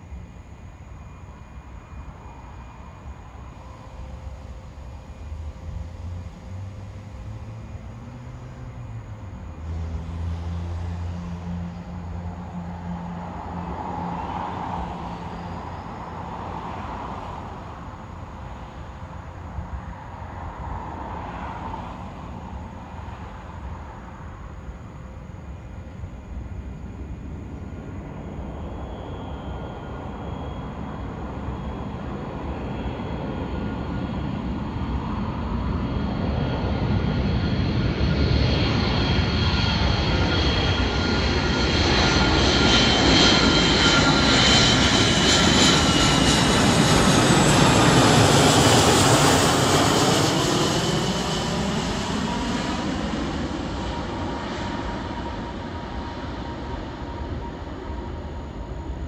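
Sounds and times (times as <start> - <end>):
jet aircraft passing by: 0.0 - 59.0.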